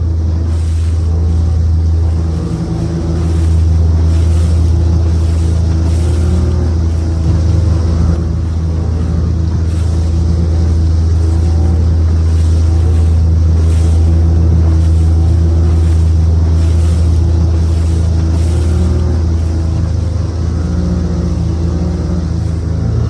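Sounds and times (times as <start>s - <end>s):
motorboat engine drone: 0.0s - 23.0s
rushing wind: 0.0s - 23.0s
water noise: 0.0s - 23.0s.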